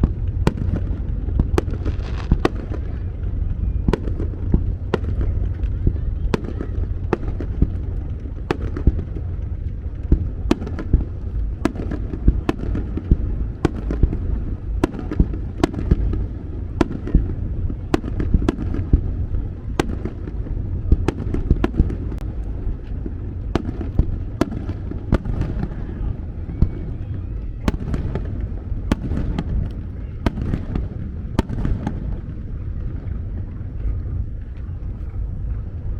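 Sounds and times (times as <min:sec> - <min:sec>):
fireworks bangs and crackles: 0:00.0 - 0:35.9
low rumble of booming shells: 0:00.0 - 0:35.9.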